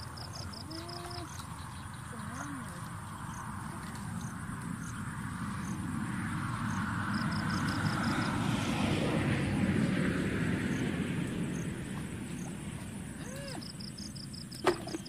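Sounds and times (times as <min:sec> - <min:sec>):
distant engine passing: 0:00.0 - 0:15.0
insect chirping: 0:00.0 - 0:15.0.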